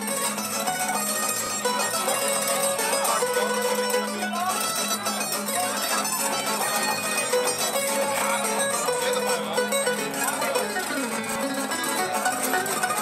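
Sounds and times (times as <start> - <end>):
plucked bass line: 0.0 - 13.0
plucked string melody: 0.0 - 13.0.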